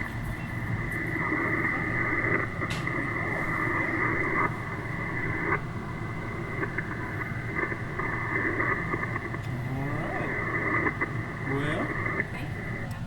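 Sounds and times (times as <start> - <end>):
faint garbled radio signals: 0.0 - 13.0
radio receiver hissing: 0.0 - 13.0.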